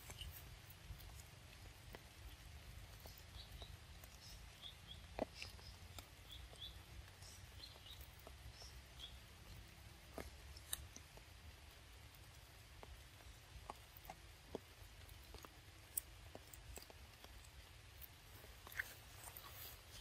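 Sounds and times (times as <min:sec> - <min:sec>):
monkey chewing fruit: 0:00.0 - 0:20.0.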